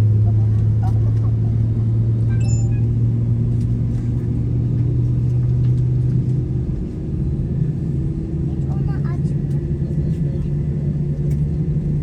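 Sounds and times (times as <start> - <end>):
airplane engine drone in cabin: 0.0 - 12.0.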